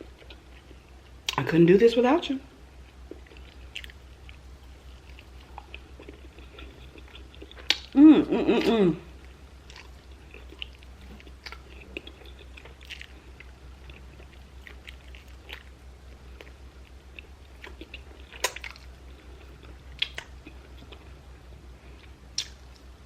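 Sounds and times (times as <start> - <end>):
person chewing food: 0.0 - 1.4, 2.8 - 23.0.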